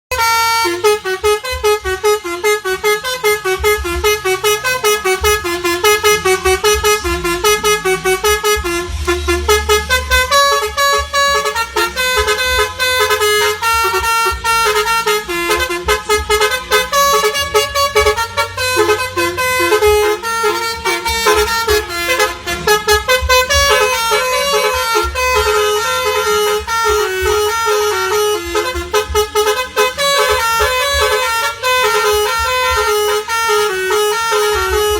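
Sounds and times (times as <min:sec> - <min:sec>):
multi-tone bus horn melody: 0:00.0 - 0:34.9.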